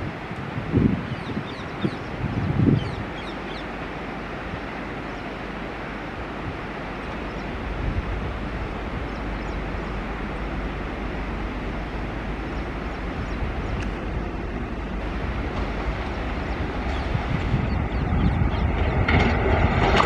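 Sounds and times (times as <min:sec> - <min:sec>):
deep train rumble: 0:00.0 - 0:20.0
train wheel and track noise: 0:00.0 - 0:20.0.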